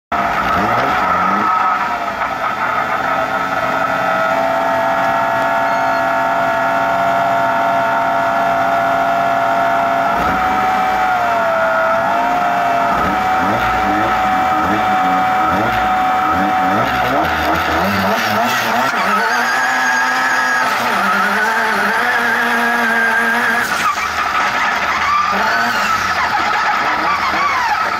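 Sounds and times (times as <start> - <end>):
race buggy engine running: 0.1 - 27.9
turbo whine: 0.1 - 27.9.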